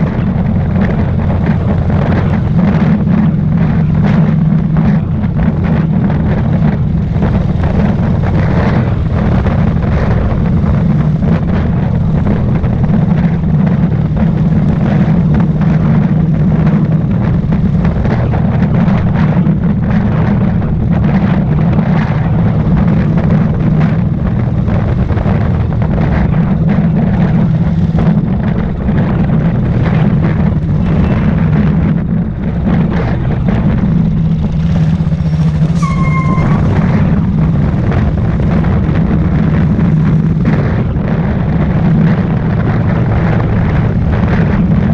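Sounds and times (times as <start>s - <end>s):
motorcycle engine running: 0.0s - 44.9s
wind on microphone: 0.0s - 44.9s.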